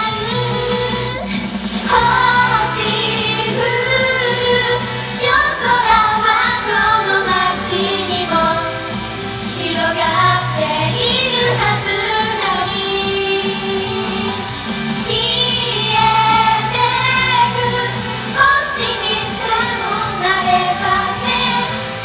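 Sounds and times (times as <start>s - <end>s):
female voices singing pop song: 0.0s - 22.0s.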